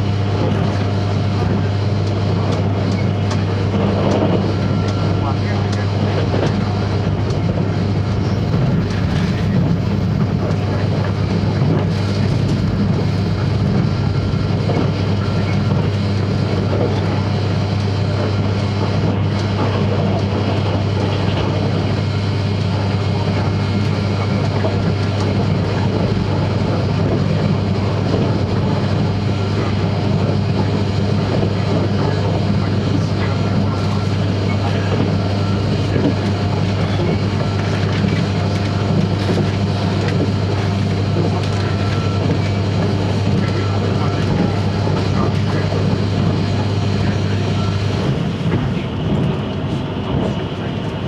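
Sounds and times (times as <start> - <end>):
constant low hum: 0.0 - 51.0
train wheels rumbling on rail: 0.0 - 51.0.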